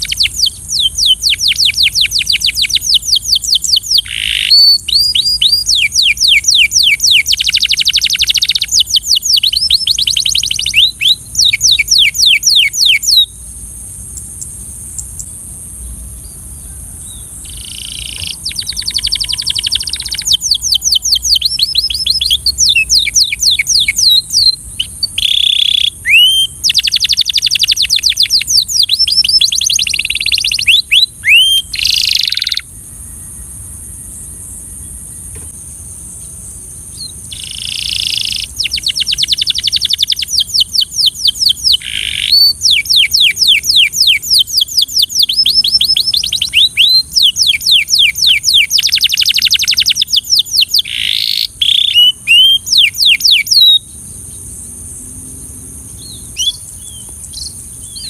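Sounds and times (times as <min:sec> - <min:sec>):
canary singing trills: 0:00.0 - 0:33.6, 0:36.2 - 0:58.0
steady high hiss: 0:00.0 - 0:58.0.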